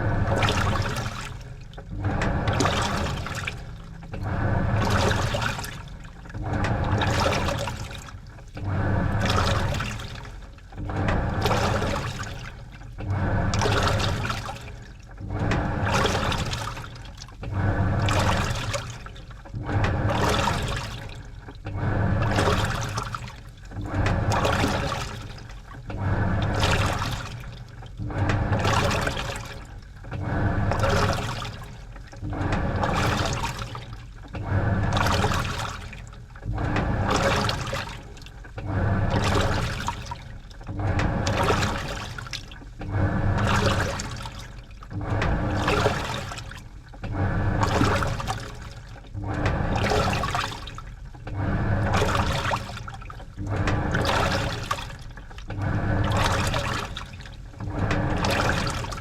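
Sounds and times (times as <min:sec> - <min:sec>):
washing machine churning: 0:00.0 - 0:59.0.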